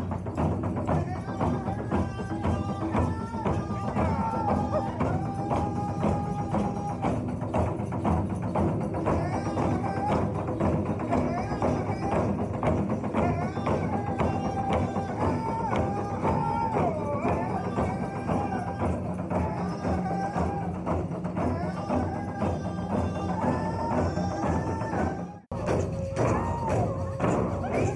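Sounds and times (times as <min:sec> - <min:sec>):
group singing: 0:00.0 - 0:27.9
large hide drum beating: 0:00.0 - 0:27.9.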